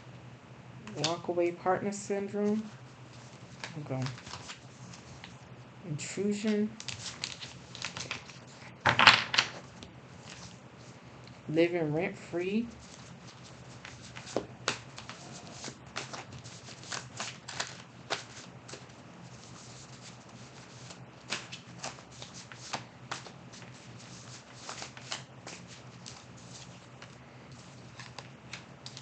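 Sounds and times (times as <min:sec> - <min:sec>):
low steady hum: 0:00.0 - 0:29.0
cards being shuffled: 0:02.5 - 0:05.4, 0:06.4 - 0:10.6, 0:12.8 - 0:29.0.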